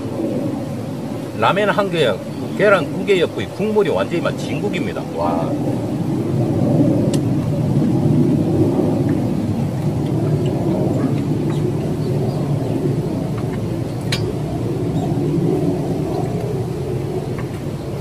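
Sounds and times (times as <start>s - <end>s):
low rushing noise: 0.0s - 18.0s.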